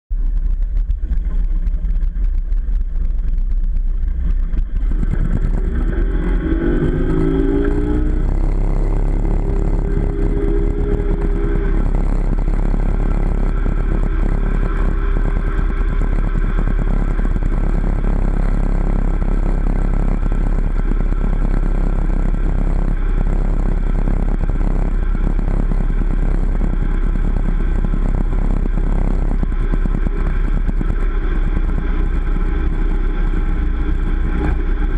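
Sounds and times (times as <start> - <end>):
motorboat engine: 0.1 - 34.9.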